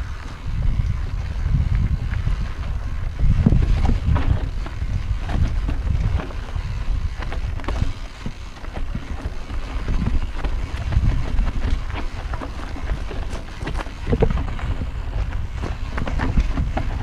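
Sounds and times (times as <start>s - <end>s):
bike rattling and knocking: 0.0s - 17.0s
wind over microphone: 0.0s - 17.0s.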